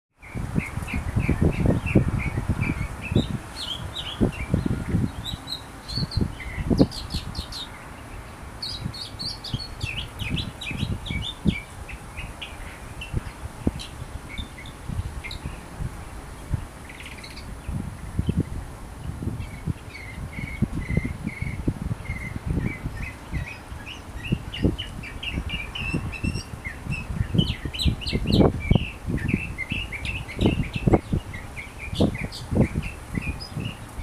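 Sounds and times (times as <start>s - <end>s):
mockingbird singing: 0.2s - 7.8s, 8.6s - 15.6s, 16.8s - 17.5s, 19.4s - 33.9s.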